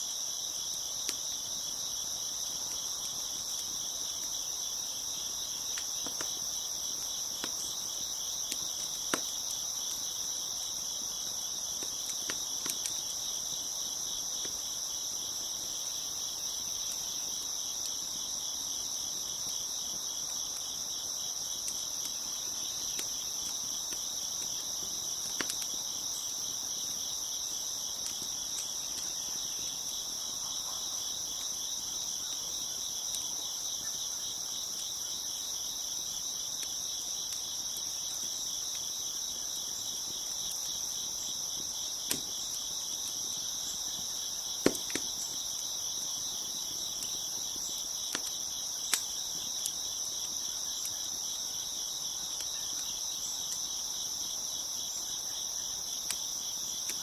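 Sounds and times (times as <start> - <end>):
crickets chirping: 0.0 - 57.0
wood fire popping: 0.5 - 33.9, 35.9 - 53.6.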